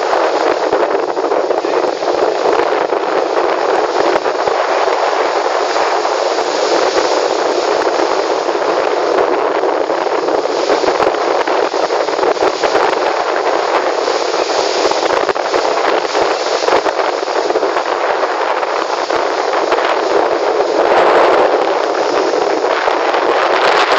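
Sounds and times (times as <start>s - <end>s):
wind and sea water rushing: 0.0s - 23.9s.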